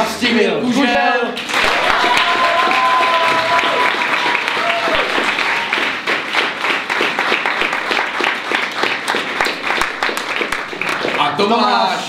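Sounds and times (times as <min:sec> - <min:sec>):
audience applauding: 0:01.4 - 0:11.8.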